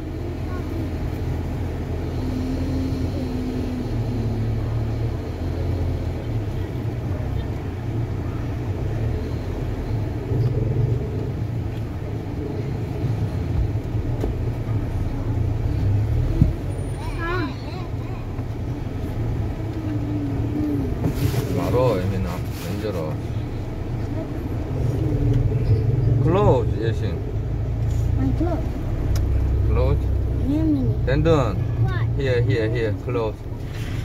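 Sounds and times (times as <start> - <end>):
engine and road rumble: 0.0 - 34.0.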